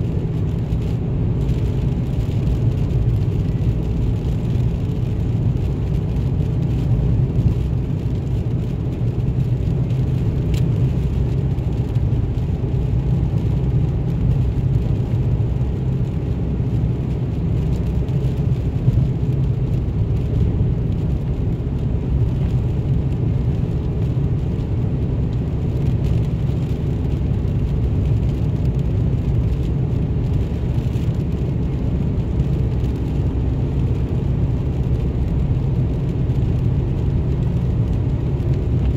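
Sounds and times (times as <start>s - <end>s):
vehicle engine and tyres droning: 0.0s - 38.9s.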